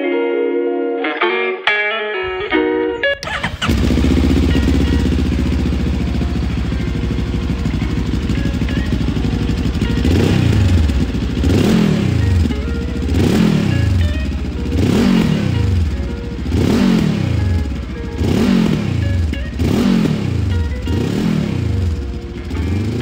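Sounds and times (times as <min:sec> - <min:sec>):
motorcycle engine revving: 0:02.3 - 0:23.0.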